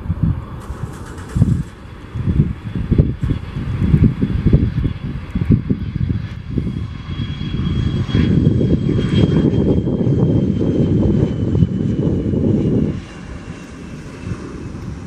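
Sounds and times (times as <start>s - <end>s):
high jet engine whine: 0.0s - 15.0s
jet airliner rumble: 0.0s - 15.0s
wind buffeting microphone: 0.0s - 15.0s.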